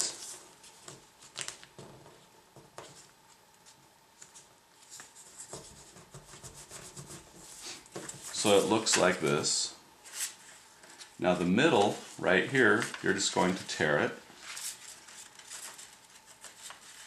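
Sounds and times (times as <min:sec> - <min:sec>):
paper rustling and crinkling: 0:00.0 - 0:06.1, 0:06.9 - 0:17.0.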